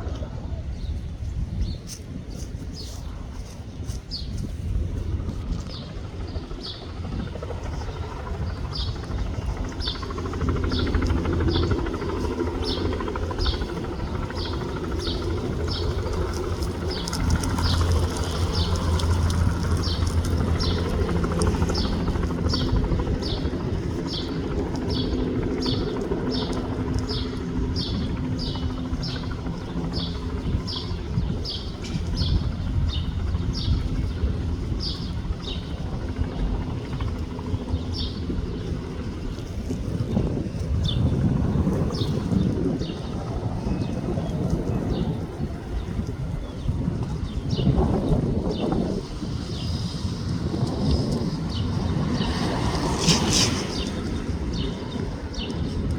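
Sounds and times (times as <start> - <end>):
helicopter turbine and rotors: 0.0 - 55.9.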